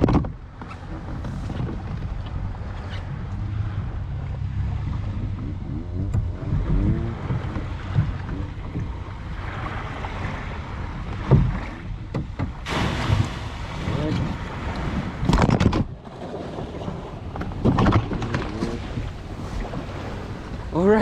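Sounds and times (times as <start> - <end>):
water moving around a kayak: 0.0 - 21.0
wind on microphone: 0.0 - 21.0.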